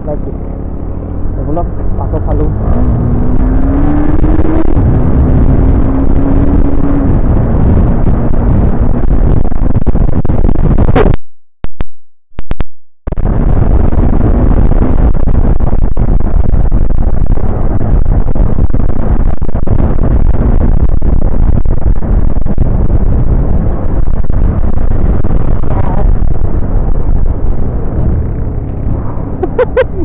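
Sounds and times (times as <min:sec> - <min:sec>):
motorcycle engine: 0:00.0 - 0:10.4, 0:13.7 - 0:30.0
wind blast on microphone: 0:00.6 - 0:11.2, 0:13.1 - 0:30.0.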